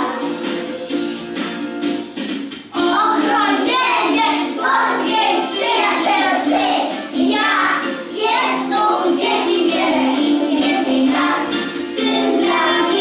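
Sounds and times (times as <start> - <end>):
children singing in unison: 0.0 - 0.7, 2.8 - 13.0
musical accompaniment: 0.0 - 13.0.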